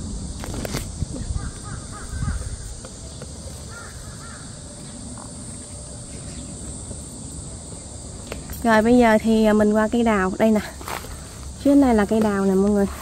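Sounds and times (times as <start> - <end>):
insects humming: 0.0 - 13.0.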